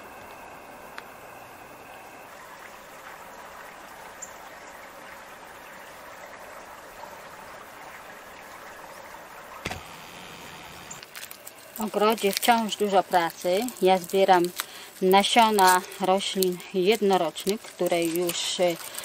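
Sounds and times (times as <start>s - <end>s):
running trickling water: 1.0s - 19.0s.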